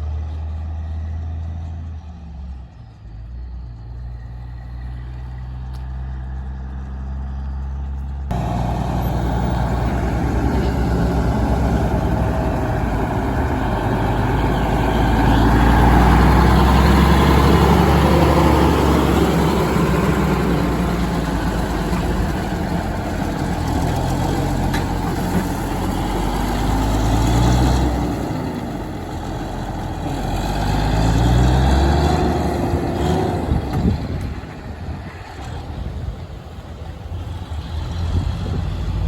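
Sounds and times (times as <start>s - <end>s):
truck engines passing: 0.0s - 39.0s.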